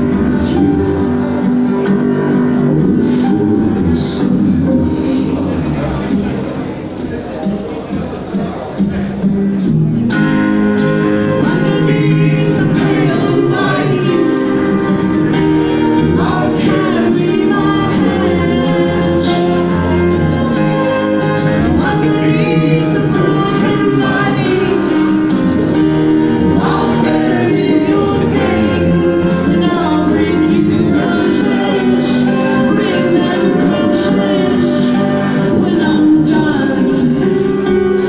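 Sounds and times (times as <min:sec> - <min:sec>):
person singing lead vocal: 0:00.0 - 0:07.4, 0:10.8 - 0:38.0
drums: 0:00.0 - 0:38.0
guitar: 0:00.0 - 0:38.0
keyboards: 0:00.0 - 0:38.0.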